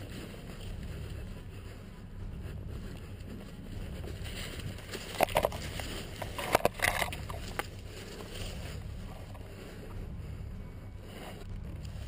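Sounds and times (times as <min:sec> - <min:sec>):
leaves and branches rustling: 0:00.0 - 0:12.0
low rumble of wind on microphone: 0:00.0 - 0:12.0.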